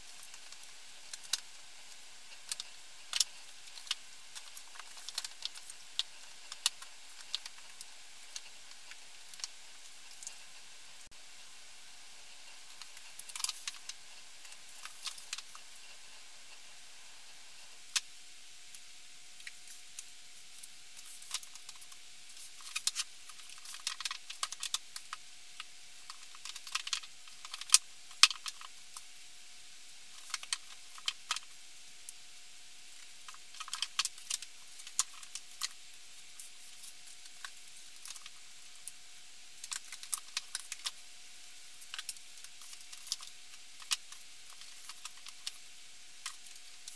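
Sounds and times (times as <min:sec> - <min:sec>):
faint steady hiss: 0:00.0 - 0:46.9.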